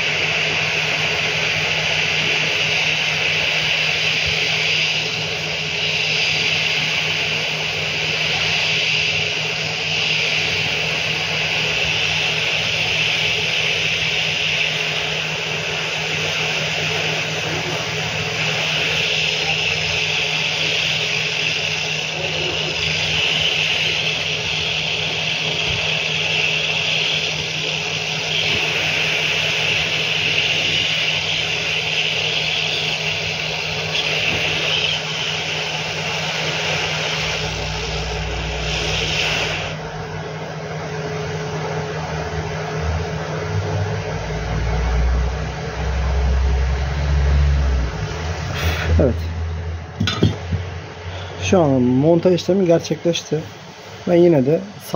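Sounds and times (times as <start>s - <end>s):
hot air blower hissing: 0.0s - 54.9s.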